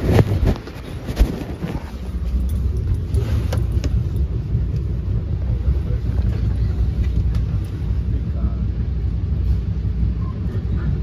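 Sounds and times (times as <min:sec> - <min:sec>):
train coach rumbling on rails: 0:00.0 - 0:11.0.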